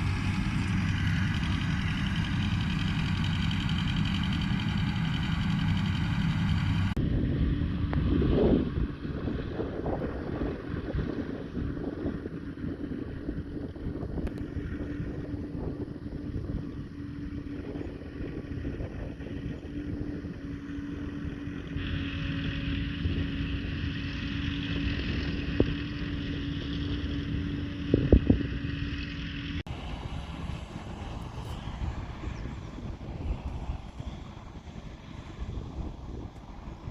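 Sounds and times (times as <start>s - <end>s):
farm machinery engine drone: 0.0s - 36.9s.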